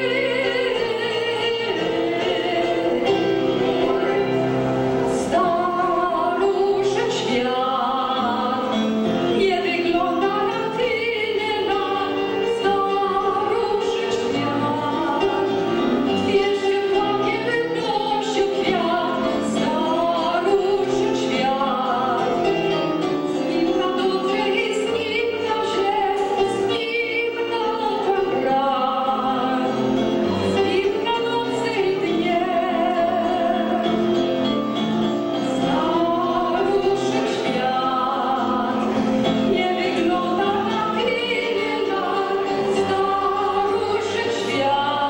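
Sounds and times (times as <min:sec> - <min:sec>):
woman singing into microphone: 0:00.0 - 0:34.6, 0:35.3 - 0:45.0
piano accompaniment: 0:00.0 - 0:45.0.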